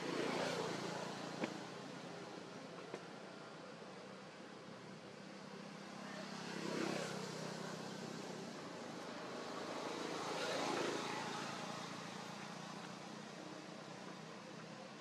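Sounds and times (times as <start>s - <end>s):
vehicles passing at a distance: 0.0s - 15.0s.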